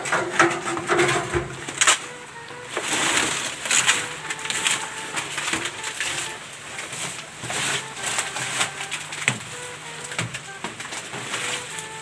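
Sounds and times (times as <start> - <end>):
banana leaves rustling and crackling: 0.0 - 12.0.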